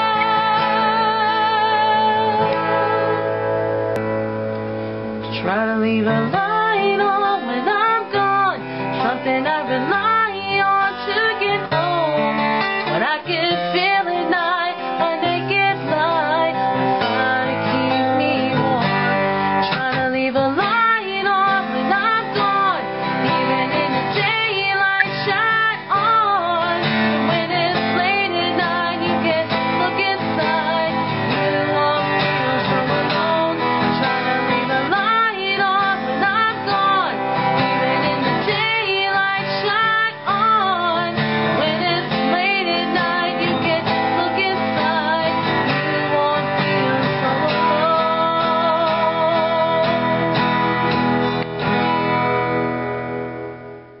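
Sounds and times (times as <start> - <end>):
woman singing: 0.0 - 3.5, 5.4 - 51.2
acoustic guitar strummed: 0.0 - 54.0.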